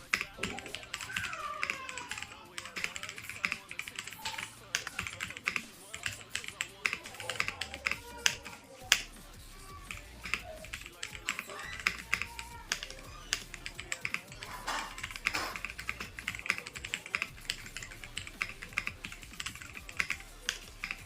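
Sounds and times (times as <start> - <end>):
mechanical keyboard typing: 0.0 - 21.0.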